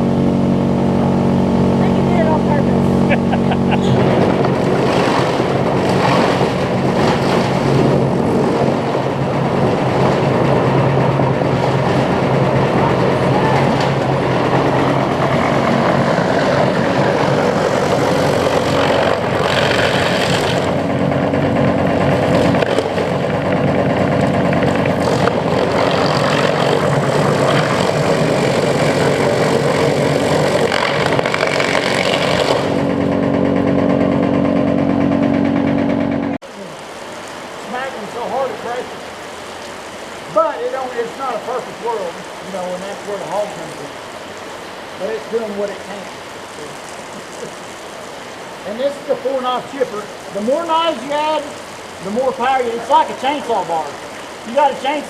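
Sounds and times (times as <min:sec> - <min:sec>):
constant low hum: 0:00.0 - 0:55.0
sawmill machinery din: 0:00.0 - 0:55.0.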